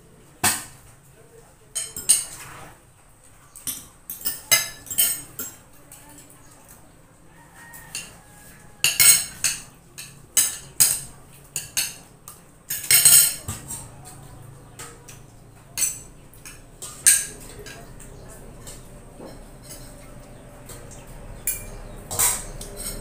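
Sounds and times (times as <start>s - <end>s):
cutlery clinking on plates: 1.7s - 2.6s, 3.2s - 23.0s
cutlery clatter: 1.7s - 6.8s, 7.4s - 23.0s.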